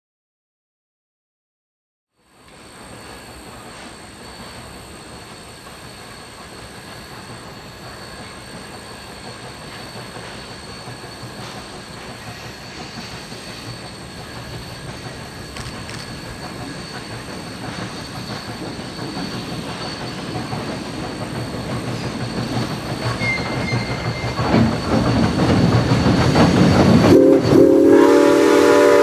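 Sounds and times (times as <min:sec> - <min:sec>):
rumble of train wheels: 0:02.2 - 0:29.0
steam train rolling on rails: 0:02.2 - 0:29.0.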